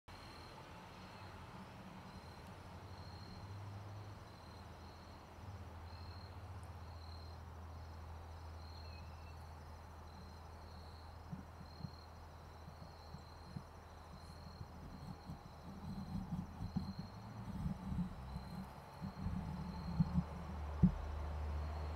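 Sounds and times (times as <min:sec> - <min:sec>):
high continuous insect trill: 0:00.1 - 0:21.9
steady low hum: 0:00.1 - 0:21.9.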